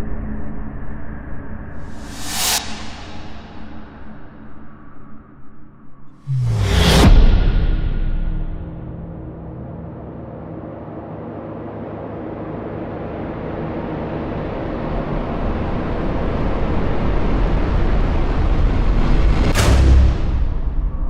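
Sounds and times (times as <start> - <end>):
cinematic riser rumble: 1.8 - 5.2, 6.2 - 21.0.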